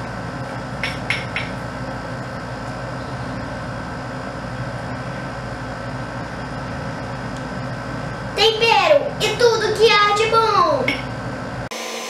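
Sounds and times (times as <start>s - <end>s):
background hum with hiss: 0.0s - 11.7s.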